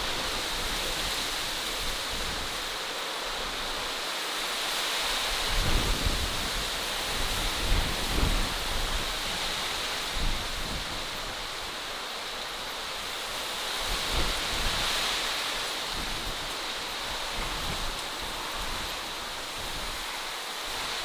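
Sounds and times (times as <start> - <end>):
rushing hiss: 0.0 - 21.0.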